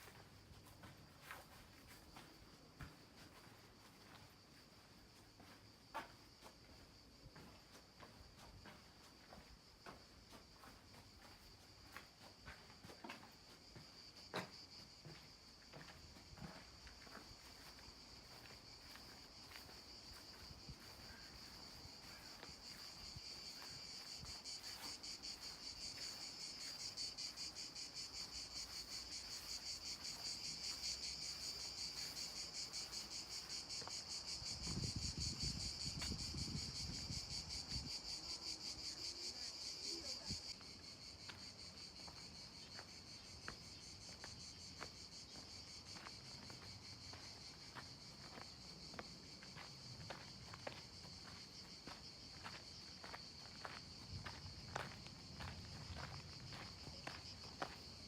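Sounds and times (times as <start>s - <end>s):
shrill of insects: 8.2s - 58.0s.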